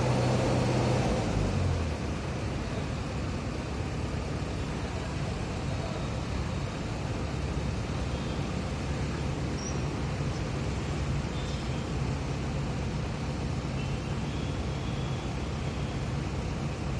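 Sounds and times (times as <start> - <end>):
diesel engine rumbling: 0.0 - 16.9.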